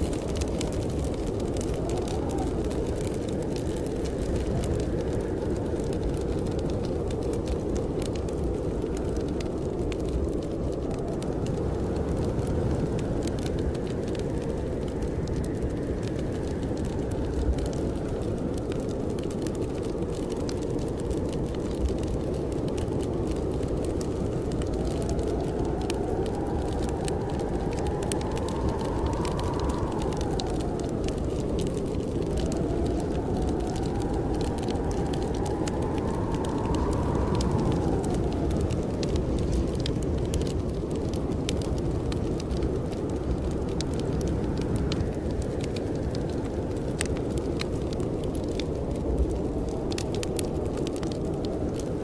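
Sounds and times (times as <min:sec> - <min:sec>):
blizzard wind blowing: 0:00.0 - 0:52.0
wood fire crackling: 0:00.0 - 0:52.0.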